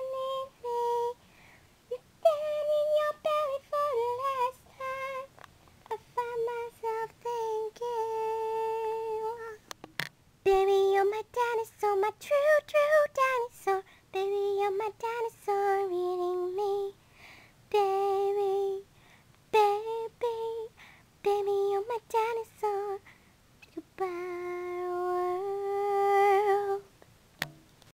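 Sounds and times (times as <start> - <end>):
girl singing unaccompanied: 0.0 - 9.7, 10.4 - 27.0.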